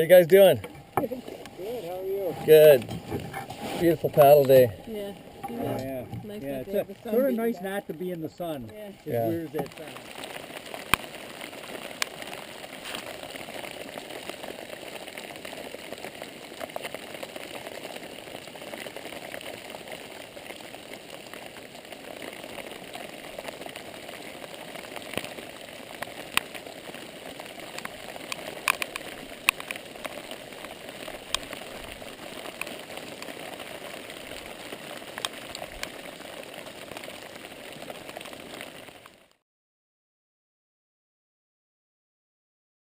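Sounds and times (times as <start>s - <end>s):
rain pattering on water: 0.0s - 39.4s.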